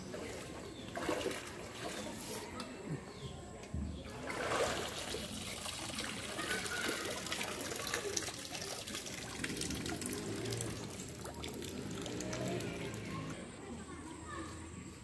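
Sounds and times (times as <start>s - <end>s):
river water splashing and trickling: 0.0s - 2.6s, 4.0s - 13.6s.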